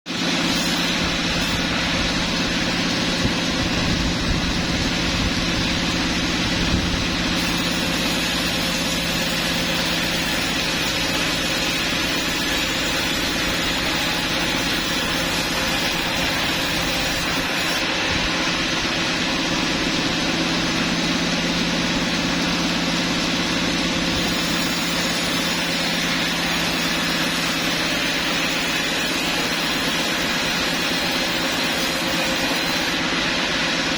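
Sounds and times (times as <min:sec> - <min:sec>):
sawmill machinery running: 0:00.1 - 0:33.9
motor hum: 0:00.2 - 0:33.9.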